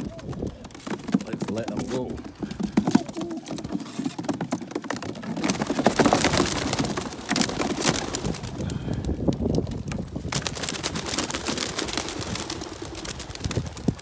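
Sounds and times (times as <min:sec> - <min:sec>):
pigeons flapping wings taking off: 0:00.0 - 0:14.0.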